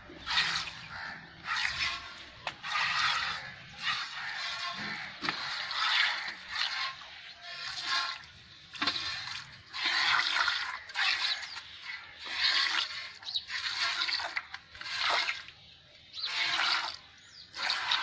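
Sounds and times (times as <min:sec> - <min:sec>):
milk squirting into metal bucket: 0:00.0 - 0:18.0.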